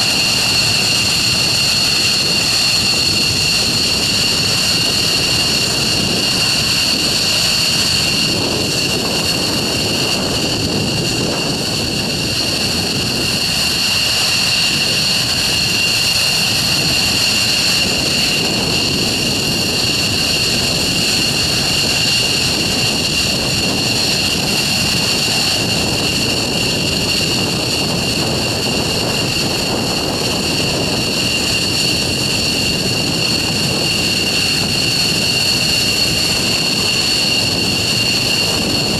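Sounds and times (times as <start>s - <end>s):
high-pitched turbine whine: 0.0s - 38.9s
jet engines roaring: 0.0s - 38.9s.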